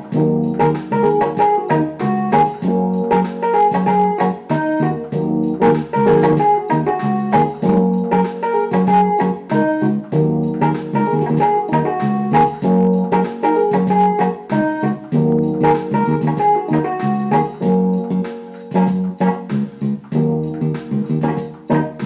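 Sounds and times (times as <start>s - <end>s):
keyboard music sustained notes: 0.0s - 22.0s.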